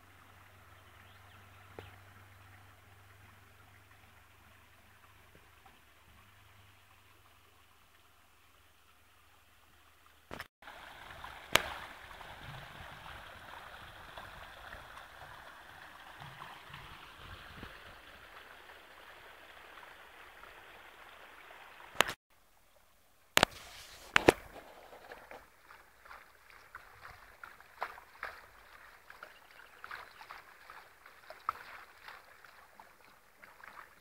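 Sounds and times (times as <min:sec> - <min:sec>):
water trickling over stones: 0:00.0 - 0:34.0.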